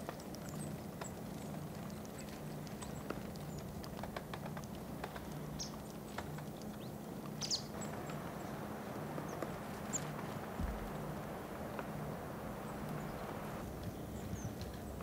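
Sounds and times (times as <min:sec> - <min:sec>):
woodpecker pecking: 0:00.0 - 0:14.8.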